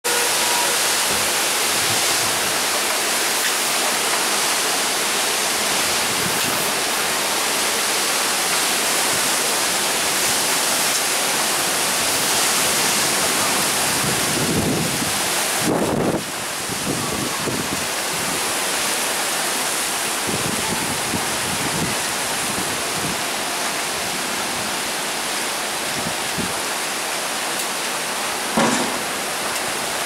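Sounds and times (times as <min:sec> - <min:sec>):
torrential rain pouring: 0:00.0 - 0:30.0.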